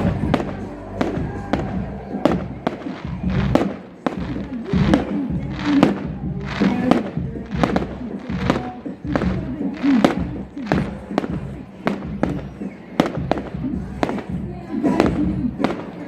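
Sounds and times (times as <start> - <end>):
fireworks banging: 0.0 - 16.0
music playing: 0.0 - 16.0.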